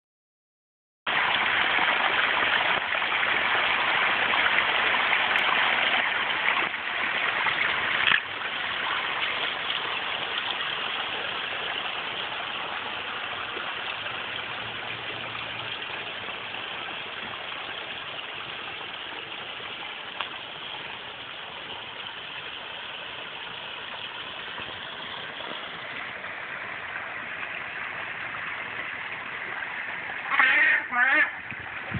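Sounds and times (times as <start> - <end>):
water splashing over stones: 1.1 - 31.9.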